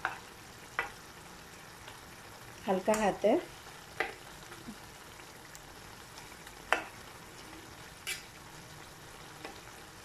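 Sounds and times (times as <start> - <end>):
curry sizzling in a frying pan: 0.0 - 10.0.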